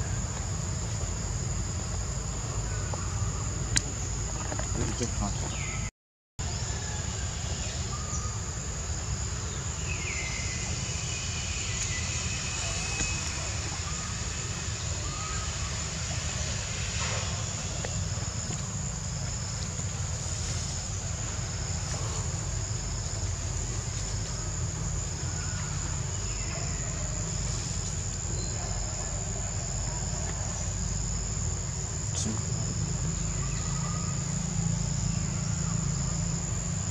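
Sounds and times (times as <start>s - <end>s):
insects buzzing and chirping: 0.0s - 36.9s
low steady rumble: 0.0s - 36.9s.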